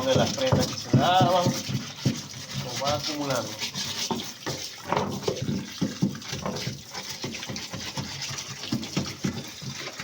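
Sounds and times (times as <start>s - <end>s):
brush scrubbing wet mud: 0.0s - 10.0s
water sloshing: 0.0s - 10.0s.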